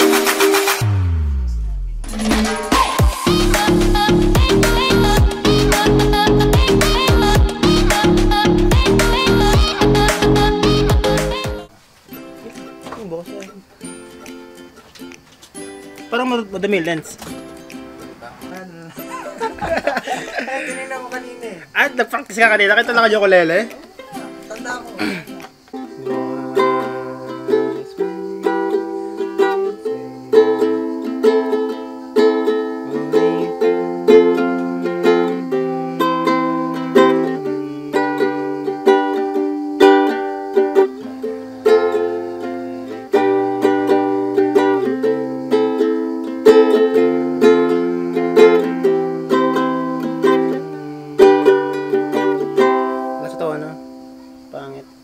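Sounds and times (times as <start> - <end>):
ukulele strumming: 0.0 - 54.2.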